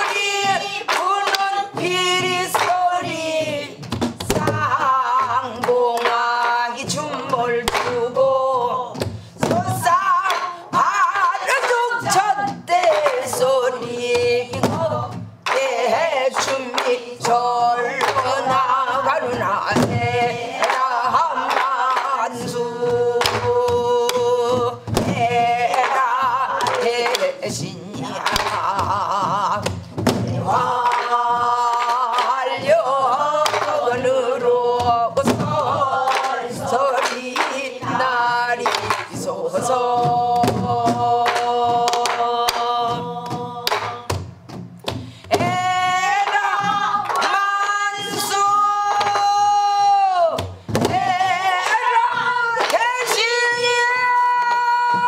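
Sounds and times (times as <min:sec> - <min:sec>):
woman singing folk song: 0:00.0 - 0:44.2, 0:44.9 - 0:55.0.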